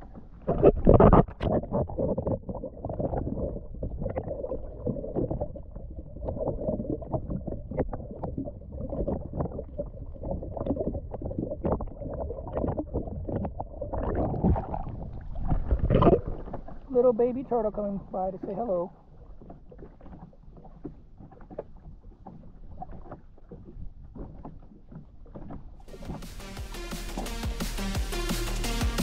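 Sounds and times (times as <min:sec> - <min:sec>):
water lapping against hull: 0:00.0 - 0:28.8
water splashing: 0:00.0 - 0:29.0.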